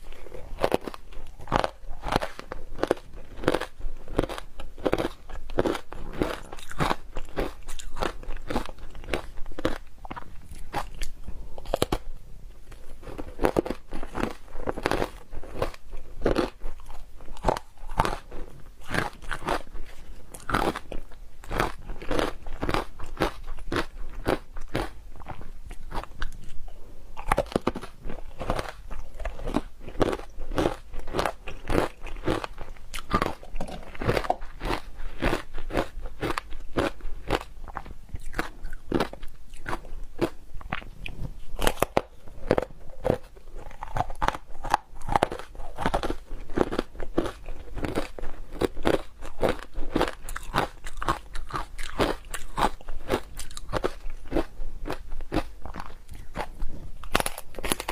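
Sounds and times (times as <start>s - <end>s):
ice being chewed crunching: 0.0s - 57.9s.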